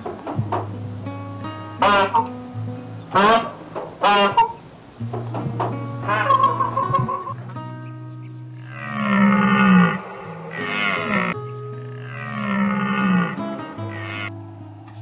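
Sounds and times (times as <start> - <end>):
soft background music: 0.0 - 4.3, 5.0 - 15.0
animal calling: 0.0 - 15.0.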